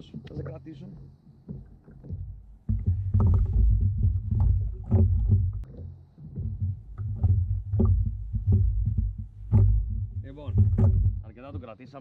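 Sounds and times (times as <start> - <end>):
low rumbling: 0.0 - 12.0
short knocks on kayak: 1.3 - 12.0.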